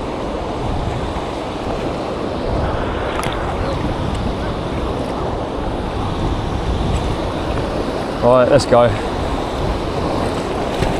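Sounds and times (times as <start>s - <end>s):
fast-flowing river water: 0.0s - 10.9s
wind buffeting microphone: 0.0s - 10.9s.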